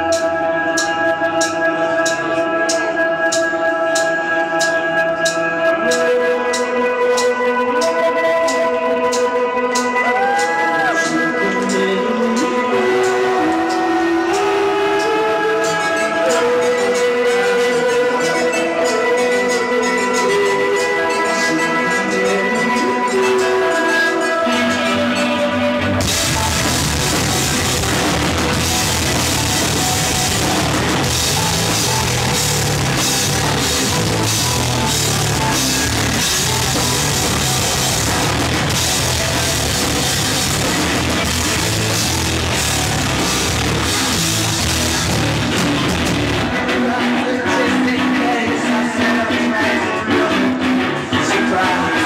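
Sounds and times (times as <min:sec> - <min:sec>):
heavy rock band playing live: 0:08.4 - 0:52.0.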